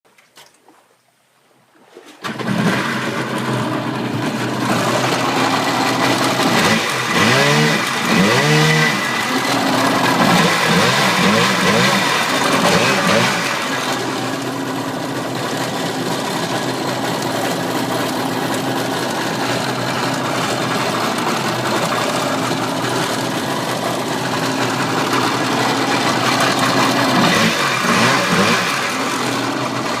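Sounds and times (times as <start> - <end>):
jet ski engine with throttle blips: 1.8 - 30.0.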